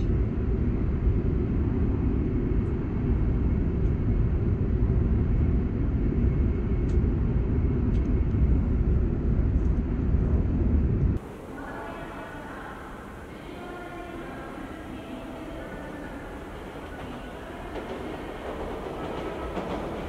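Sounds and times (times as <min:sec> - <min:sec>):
train rumbling at speed: 0:00.0 - 0:20.0.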